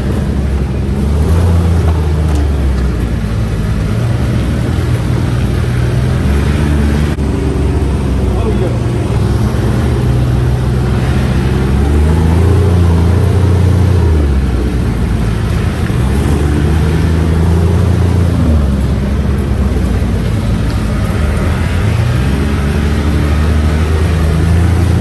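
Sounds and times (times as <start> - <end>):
utility vehicle engine revving: 0.0 - 25.0.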